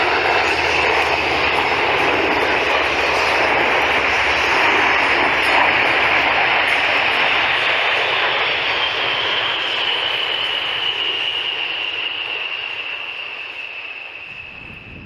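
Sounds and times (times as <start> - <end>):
jet aircraft roar passing: 0.0 - 15.0.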